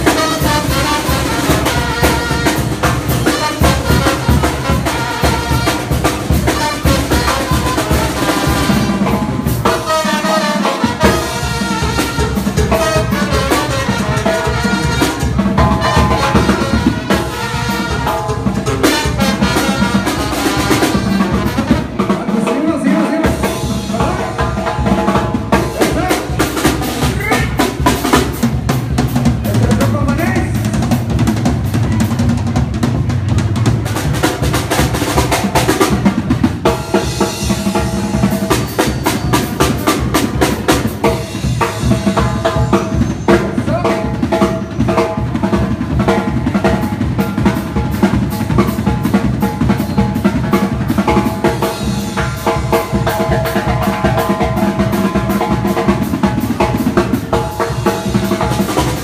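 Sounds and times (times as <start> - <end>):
brass band playing: 0.0 - 59.0.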